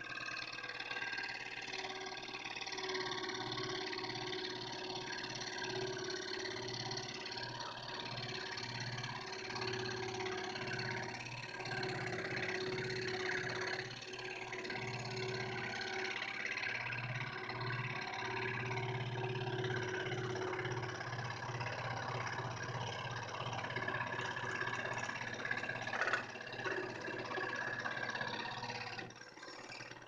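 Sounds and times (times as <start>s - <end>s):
scroll saw motor hum: 0.0s - 30.0s.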